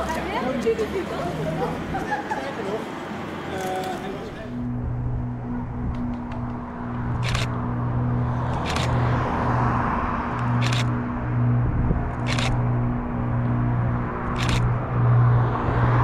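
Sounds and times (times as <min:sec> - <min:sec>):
turboprop engines droning: 0:00.4 - 0:16.0.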